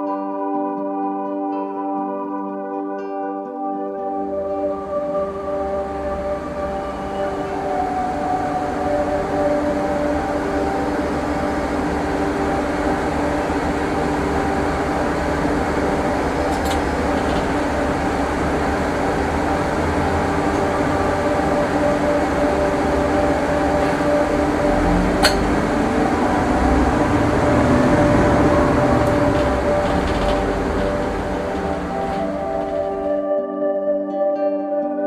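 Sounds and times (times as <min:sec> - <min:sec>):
drivetrain whine: 0:04.3 - 0:33.3
bus low rumble: 0:04.4 - 0:33.2.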